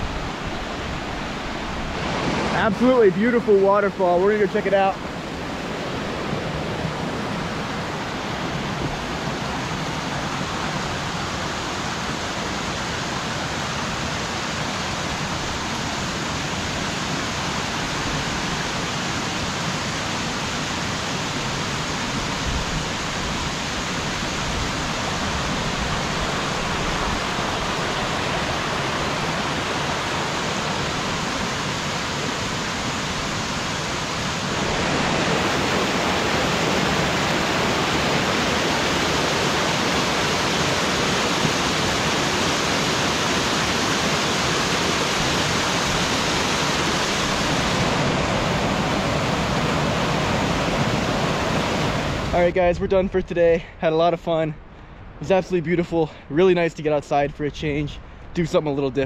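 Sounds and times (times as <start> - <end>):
waterfall rushing over rocks: 0.0 - 52.5.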